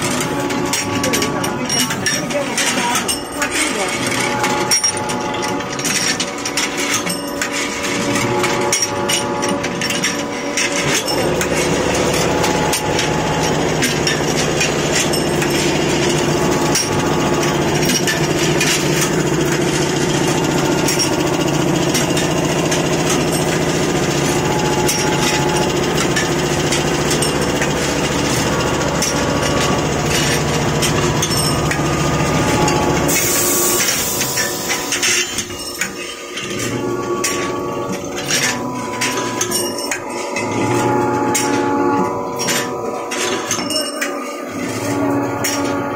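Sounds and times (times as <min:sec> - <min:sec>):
machine metallic clicks and clatter: 0:00.0 - 0:45.9.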